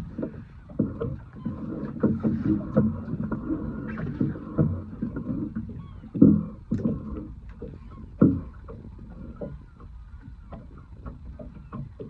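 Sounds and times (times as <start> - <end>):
low water wash: 0.0 - 12.0
water knocking against boat hull: 0.0 - 12.0.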